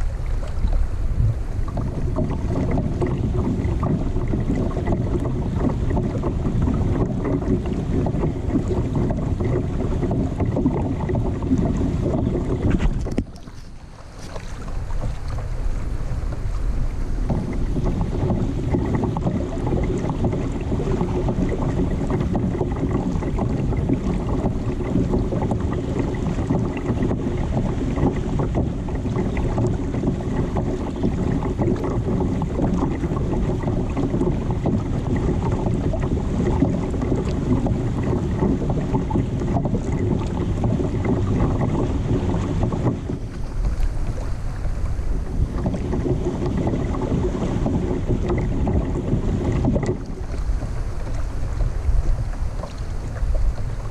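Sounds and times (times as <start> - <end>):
water splashing: 0.0 - 53.9
wind rumbling on microphone: 0.0 - 53.9.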